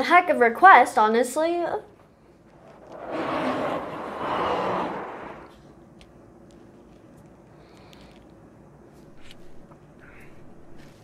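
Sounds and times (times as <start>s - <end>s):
faint low hum: 1.4s - 11.0s.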